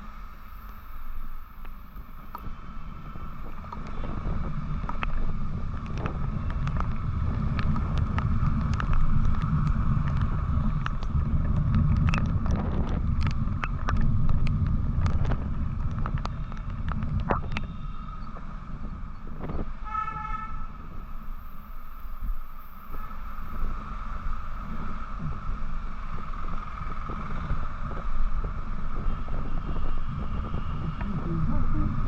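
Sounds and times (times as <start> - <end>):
motorcycle low rumble: 0.0 - 32.0
road noise: 0.0 - 32.0
wind buffeting microphone: 0.0 - 32.0.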